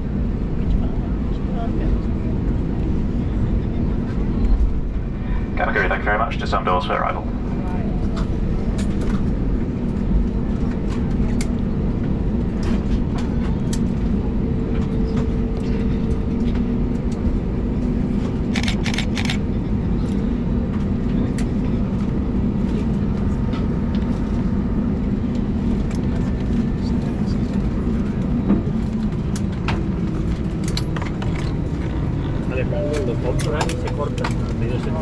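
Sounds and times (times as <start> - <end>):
aircraft cabin hum: 0.0 - 35.0.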